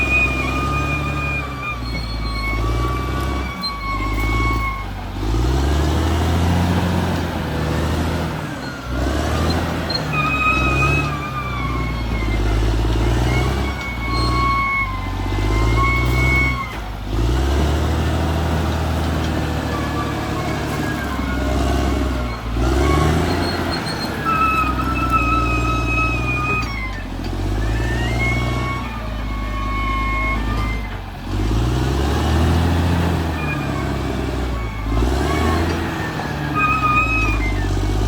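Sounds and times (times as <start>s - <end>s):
bulldozer diesel engine working: 0.0s - 38.0s.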